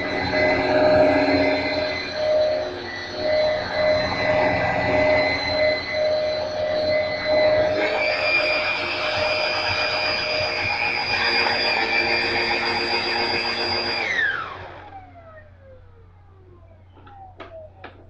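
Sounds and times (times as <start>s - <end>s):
upright vacuum cleaner running: 0.0s - 17.7s.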